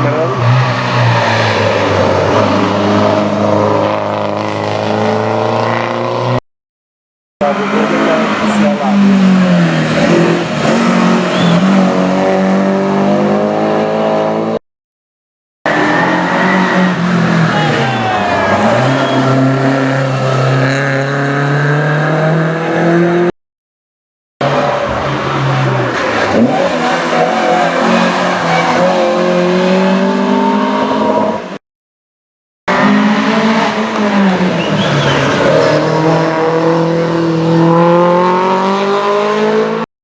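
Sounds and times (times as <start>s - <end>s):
rally car engine accelerating: 0.0s - 6.4s, 7.4s - 14.6s, 15.7s - 23.3s, 24.4s - 31.6s, 32.7s - 39.8s.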